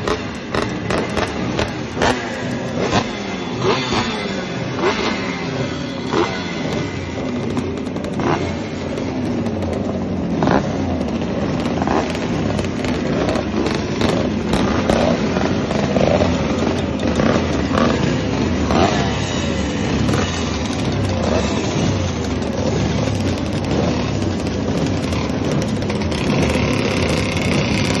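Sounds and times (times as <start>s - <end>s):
exhaust crackles and pops: 0.0s - 3.1s, 6.1s - 28.0s
two-stroke motorcycle engines revving: 0.0s - 28.0s.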